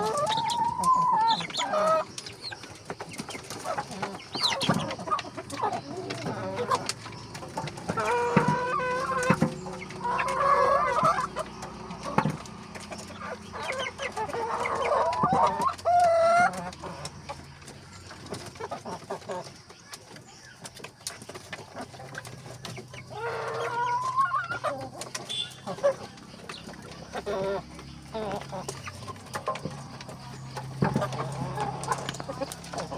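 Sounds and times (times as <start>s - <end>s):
chickens clucking: 0.0s - 32.9s.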